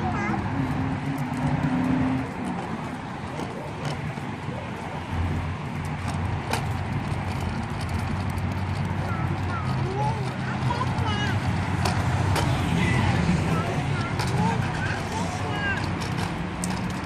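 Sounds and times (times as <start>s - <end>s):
plastic wheels rolling on concrete: 0.0s - 17.0s.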